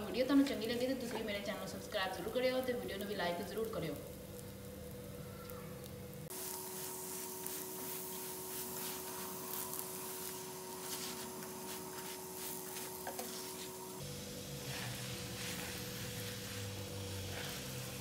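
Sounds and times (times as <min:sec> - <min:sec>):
steady hum: 0:00.0 - 0:18.0
flatbread sizzling with crackles: 0:00.2 - 0:18.0.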